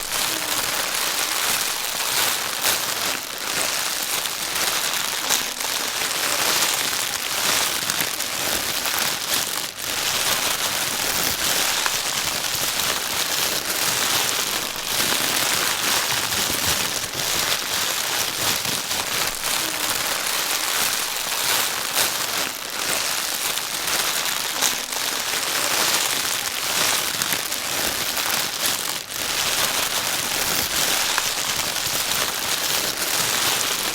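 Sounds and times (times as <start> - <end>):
plastic bag crinkling: 0.0 - 33.9.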